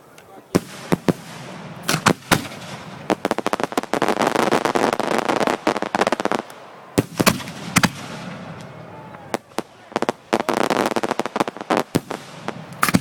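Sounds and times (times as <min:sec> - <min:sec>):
fireworks bangs and crackling: 0:00.5 - 0:13.0.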